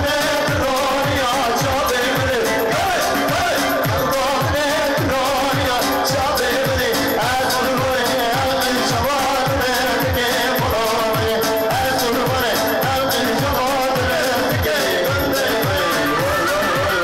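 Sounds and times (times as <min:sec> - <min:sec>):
electronic keyboard with drum beat: 0:00.0 - 0:17.0
man singing into a microphone: 0:00.0 - 0:17.0.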